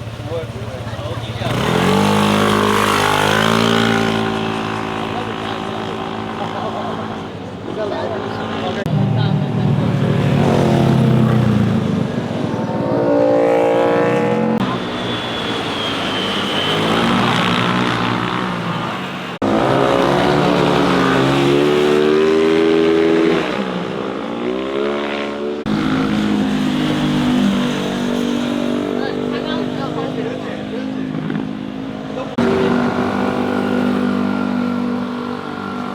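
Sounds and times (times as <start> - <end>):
motorcycle engines revving: 0.0 - 35.9.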